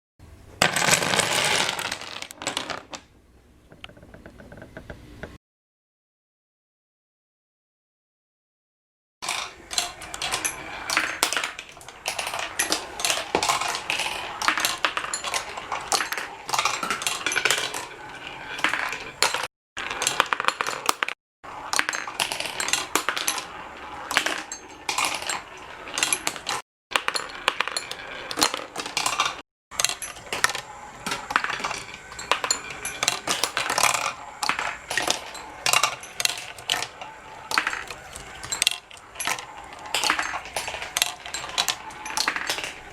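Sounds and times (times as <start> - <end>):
marbles rolling and clicking: 0.6 - 3.1, 3.7 - 5.2, 9.2 - 42.9.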